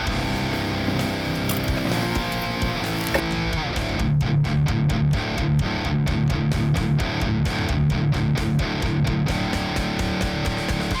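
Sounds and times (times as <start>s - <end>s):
rock music with electric guitar: 0.0s - 11.0s.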